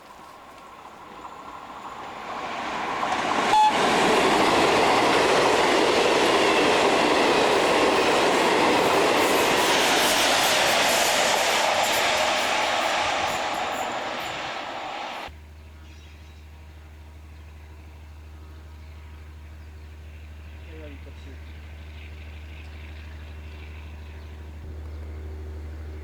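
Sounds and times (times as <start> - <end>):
train passing: 0.0 - 15.8, 16.4 - 26.0.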